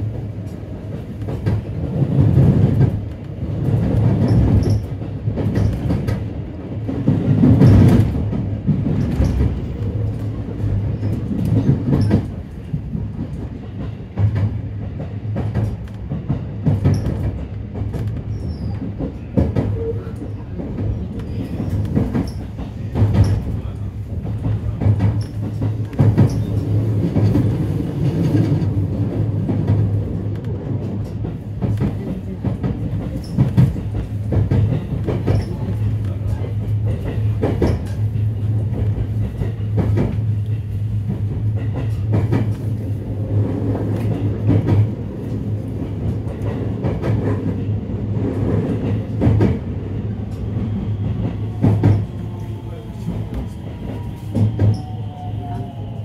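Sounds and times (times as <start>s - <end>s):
train rumble inside car: 0.0s - 56.0s.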